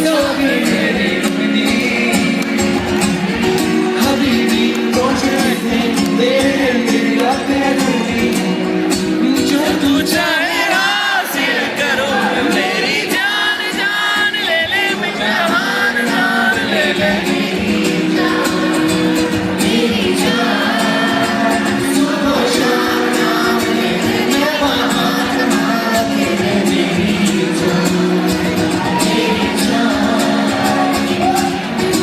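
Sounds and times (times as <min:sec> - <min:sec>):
amplified singing: 0:00.0 - 0:32.0
crowd noise: 0:00.0 - 0:32.0
live band with steady beat: 0:00.0 - 0:32.0.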